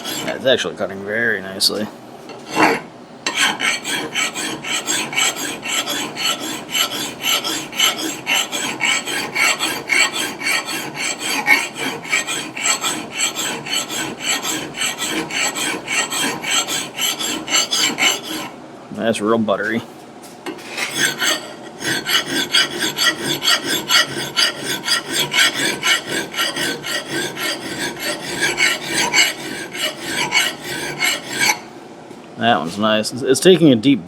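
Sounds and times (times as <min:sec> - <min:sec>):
file rasping on steel: 0:00.0 - 0:00.6, 0:02.4 - 0:18.6, 0:20.5 - 0:31.7.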